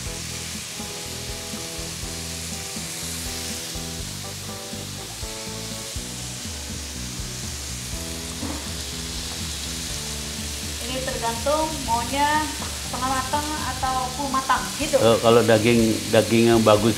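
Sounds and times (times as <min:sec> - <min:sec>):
background music: 0:00.0 - 0:16.9
meat sizzling in grill pan: 0:00.0 - 0:16.9.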